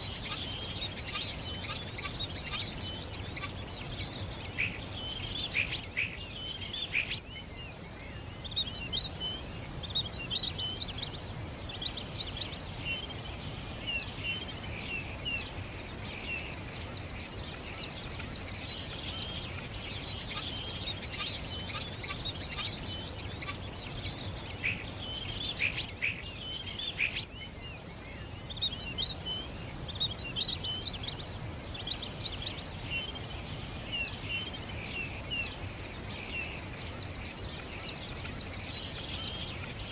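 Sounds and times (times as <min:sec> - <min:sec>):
low background noise: 0:00.0 - 0:39.9
songbirds chirping and twittering: 0:00.0 - 0:39.9.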